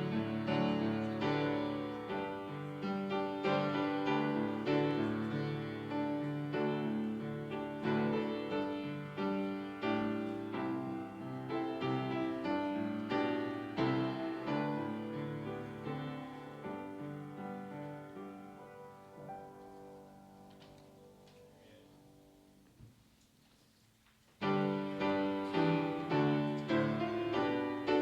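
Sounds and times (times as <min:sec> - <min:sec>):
slow solo piano piece: 0:00.0 - 0:23.1, 0:24.3 - 0:28.0.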